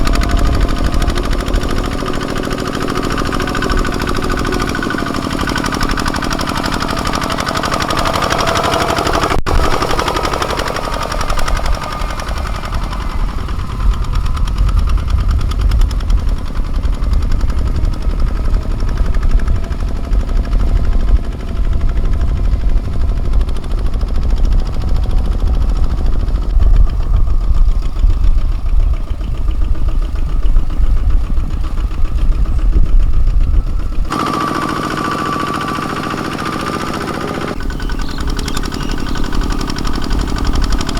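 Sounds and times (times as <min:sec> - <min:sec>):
tractor diesel engine chugging: 0:00.0 - 0:40.9.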